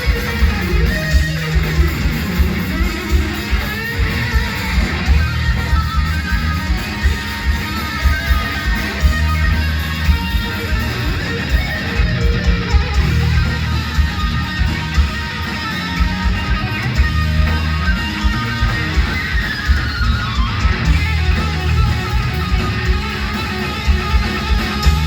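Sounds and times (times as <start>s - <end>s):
drums and bass: 0.0s - 25.0s
electric guitar solo: 0.0s - 25.0s.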